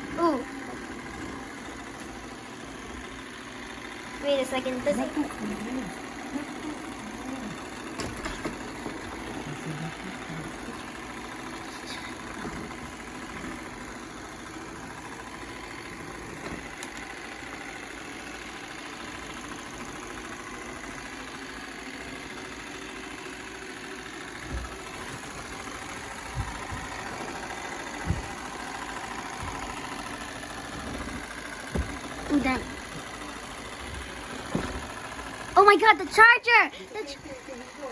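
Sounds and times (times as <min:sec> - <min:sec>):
robot vacuum whirring: 0:00.0 - 0:37.9.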